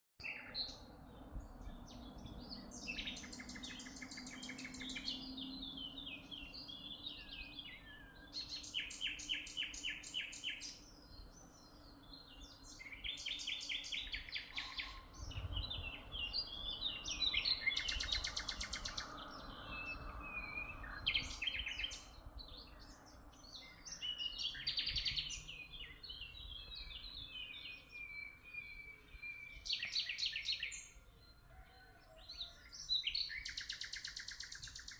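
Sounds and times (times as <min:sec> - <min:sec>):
songbirds singing: 0:00.2 - 0:34.9.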